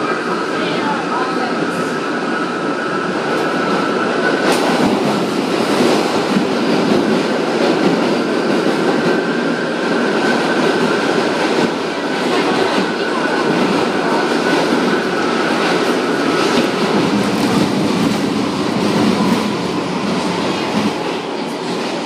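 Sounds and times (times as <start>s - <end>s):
rumble of train wheels on rail: 0.0s - 22.0s.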